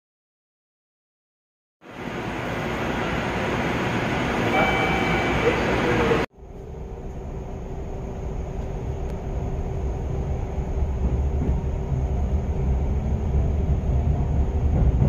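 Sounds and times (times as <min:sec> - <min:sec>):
electric train cabin rumble: 0:01.8 - 0:15.0.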